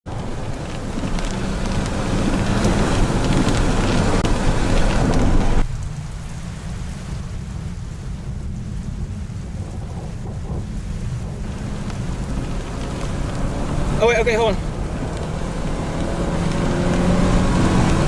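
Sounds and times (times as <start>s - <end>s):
steady low rumble: 0.1s - 17.0s
heavy rain hissing: 0.1s - 18.0s.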